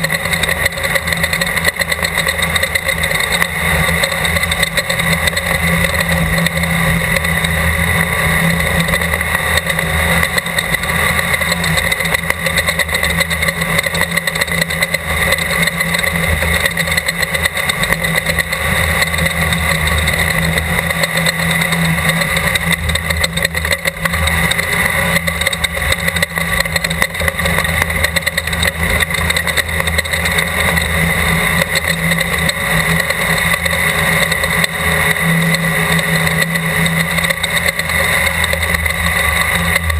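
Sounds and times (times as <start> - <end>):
dense rush of noise: 0.0 - 39.9
race car engine running hard: 0.0 - 39.9.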